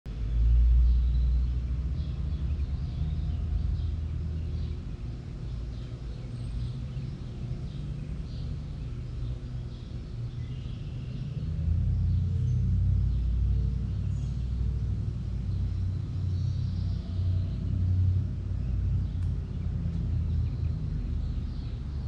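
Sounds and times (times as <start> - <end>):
birds chirping: 0.1 - 22.0.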